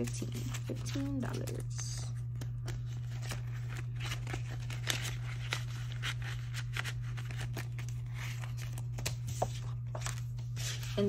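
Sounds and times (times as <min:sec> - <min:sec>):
paper bills and plastic pouch rustling: 0:00.0 - 0:11.0.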